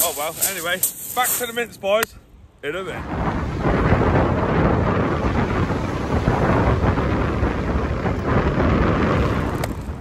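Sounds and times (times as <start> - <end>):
wind buffeting microphone: 0.4 - 10.0.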